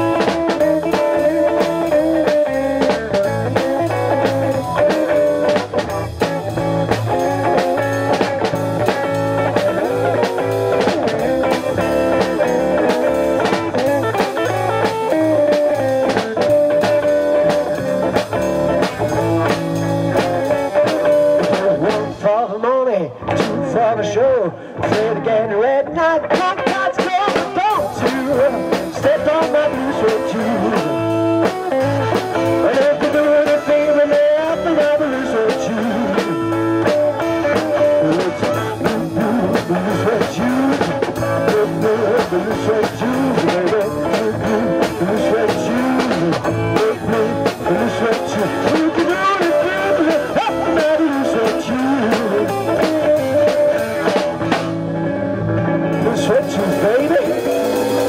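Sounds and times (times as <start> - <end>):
steady drum beat: 0.0 - 22.2, 26.3 - 54.9, 55.9 - 58.0
electric guitars bending lines: 0.0 - 22.4, 23.1 - 58.0
bass guitar: 0.0 - 58.0.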